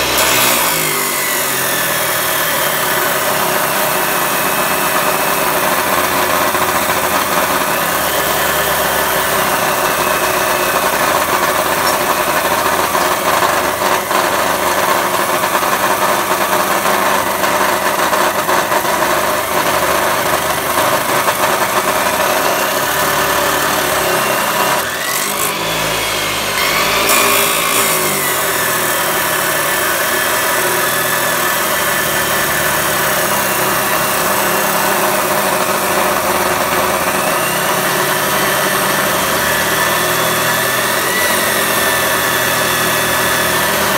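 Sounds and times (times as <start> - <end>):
chop saw cutting metal bar: 0.0 - 43.9
saw motor running: 0.0 - 43.9.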